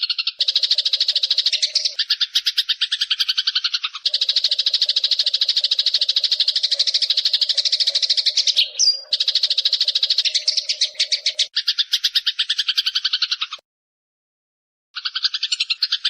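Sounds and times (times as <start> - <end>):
sparrow chattering call: 0.0 - 13.6, 15.0 - 16.0.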